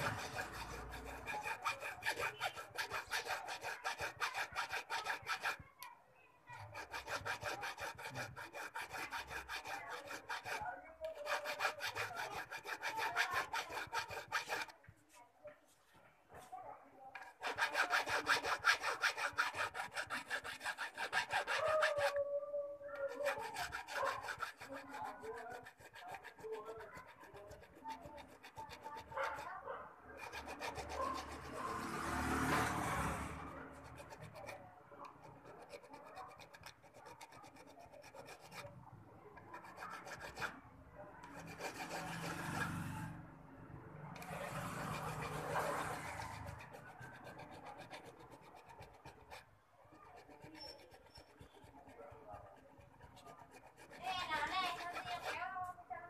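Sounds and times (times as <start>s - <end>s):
hand file rasping on metal: 0.0s - 5.9s, 6.5s - 14.8s, 17.1s - 22.3s, 22.9s - 43.2s, 44.1s - 55.8s.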